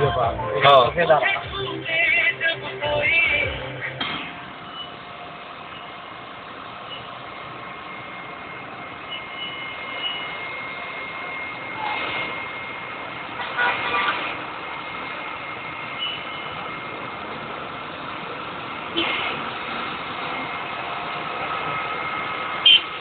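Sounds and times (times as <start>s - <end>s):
street noise: 0.0s - 23.0s
vehicle engines idling: 0.0s - 23.0s.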